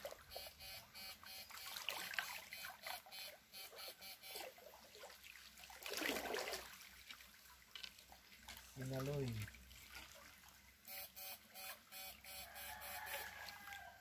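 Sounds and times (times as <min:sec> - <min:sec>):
river water splashing and trickling: 0:00.0 - 0:10.9, 0:12.9 - 0:14.0.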